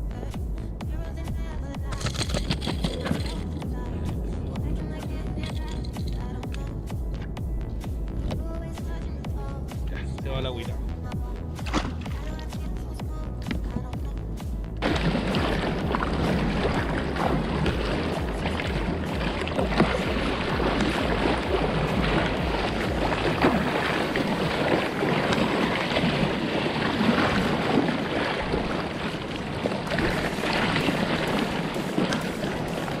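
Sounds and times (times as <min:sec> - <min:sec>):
water splashing around kayak: 0:01.9 - 0:08.9, 0:11.5 - 0:33.0.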